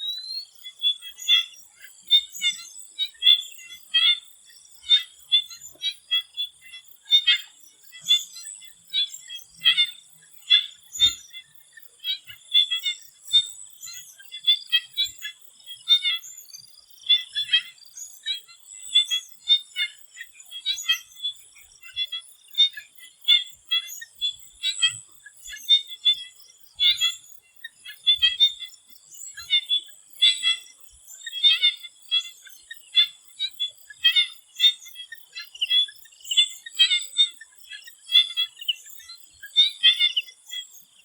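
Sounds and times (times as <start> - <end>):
frogs calling: 0.0 - 41.0.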